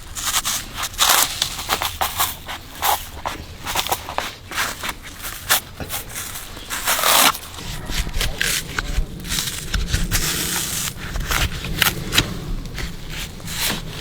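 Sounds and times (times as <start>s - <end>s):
bark being peeled from trunk: 0.0s - 14.0s.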